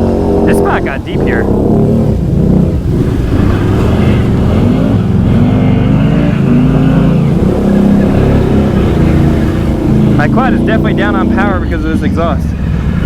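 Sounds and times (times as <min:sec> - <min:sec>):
atv engines revving through mud: 0:00.0 - 0:13.0.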